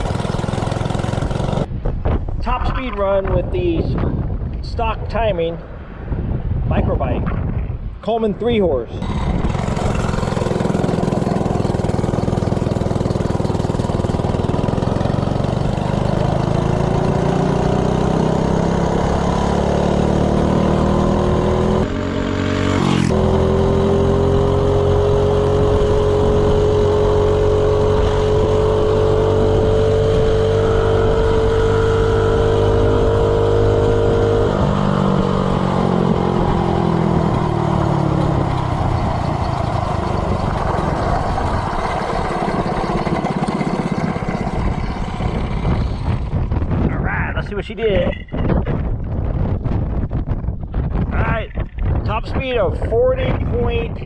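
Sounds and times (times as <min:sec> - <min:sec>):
minibike engine at full throttle: 0:00.0 - 0:01.8, 0:09.0 - 0:54.0.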